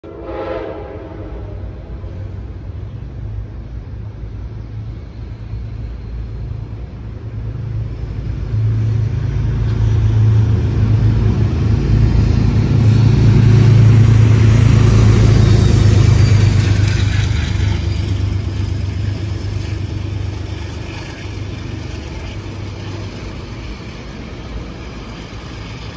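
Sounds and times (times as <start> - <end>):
diesel locomotive approaching: 0.0 - 25.9.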